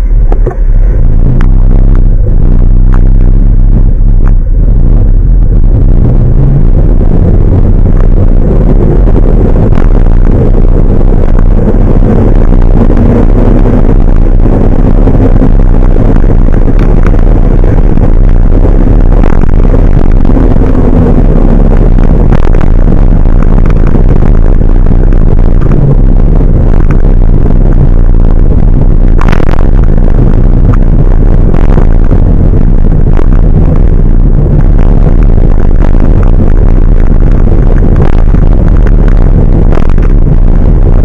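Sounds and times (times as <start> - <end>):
truck engine rumbling: 0.0 - 41.0.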